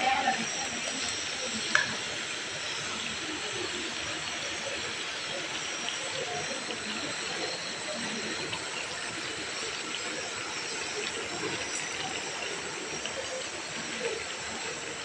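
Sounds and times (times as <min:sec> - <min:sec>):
curry sizzling in a pot: 0:00.0 - 0:15.0.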